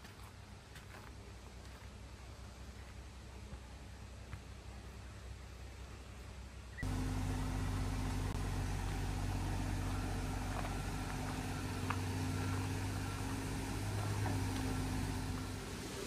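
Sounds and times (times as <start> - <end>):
engine idling: 0.8 - 16.0.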